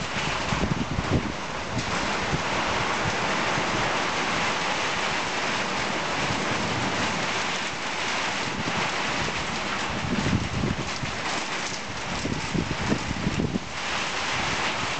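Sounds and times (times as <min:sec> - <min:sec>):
heavy rain hissing: 0:00.0 - 0:14.9.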